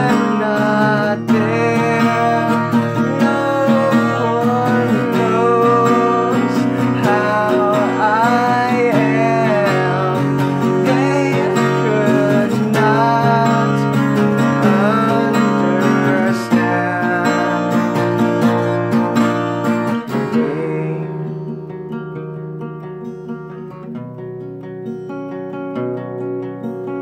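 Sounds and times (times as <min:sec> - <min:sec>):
man singing: 0:00.0 - 0:21.6
acoustic guitar strummed: 0:00.0 - 0:27.0.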